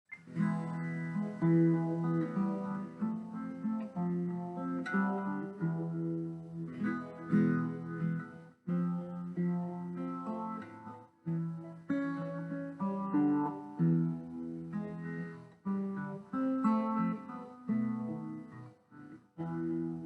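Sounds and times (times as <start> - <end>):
solo guitar picking and strumming: 0.1 - 20.0.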